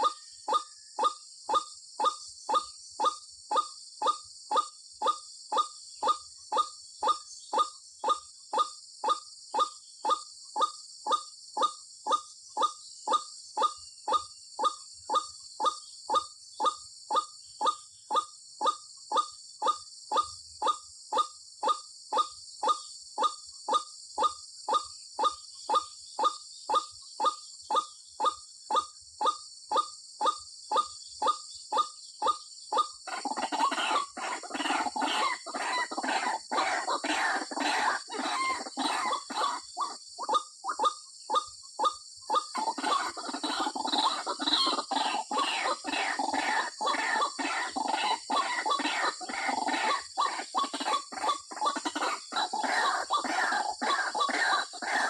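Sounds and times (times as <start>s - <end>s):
harsh bird chattering: 0.0s - 55.0s
waterhen short calls: 0.0s - 55.0s.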